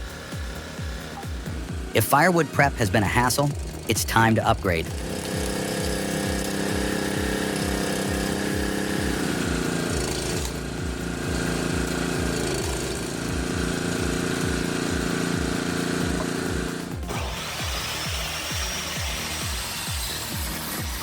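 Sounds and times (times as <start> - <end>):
motor drone: 0.0 - 21.0.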